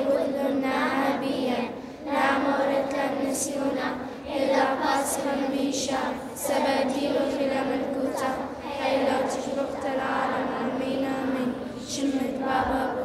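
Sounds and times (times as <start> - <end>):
children singing in unison: 0.0 - 13.0.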